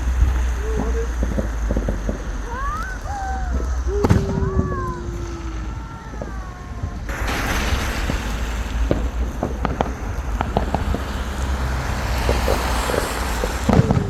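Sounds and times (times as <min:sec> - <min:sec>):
firework hiss: 0:00.0 - 0:14.0
fireworks crackling and popping: 0:00.0 - 0:14.0
wind on microphone: 0:00.0 - 0:14.0.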